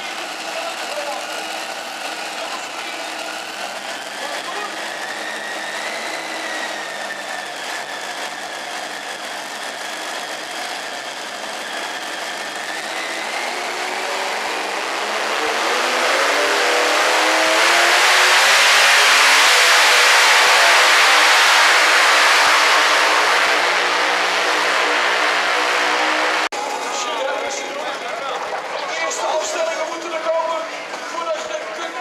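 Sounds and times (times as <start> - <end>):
pulling tractor engine revving: 0.0 - 32.0.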